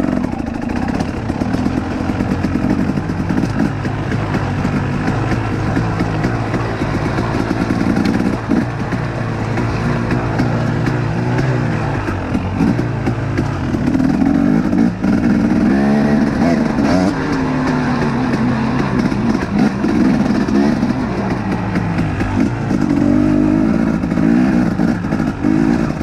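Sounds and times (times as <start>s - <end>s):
two-stroke dirt bike engine: 0.0s - 26.0s.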